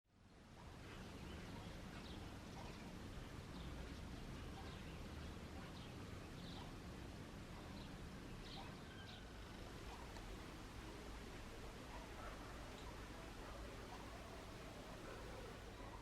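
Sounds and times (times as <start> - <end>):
outdoor background hum: 0.2 - 16.0
faint bird chirps: 0.6 - 6.9, 7.5 - 16.0.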